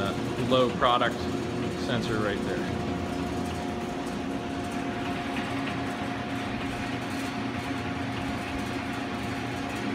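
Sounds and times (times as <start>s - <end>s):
machine mechanical drone: 0.0s - 9.9s.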